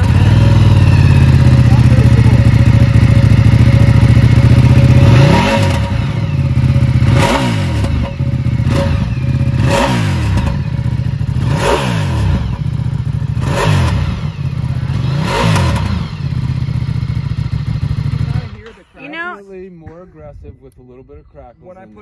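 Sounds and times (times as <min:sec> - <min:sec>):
motorcycle engine idling and revving: 0:00.0 - 0:20.5.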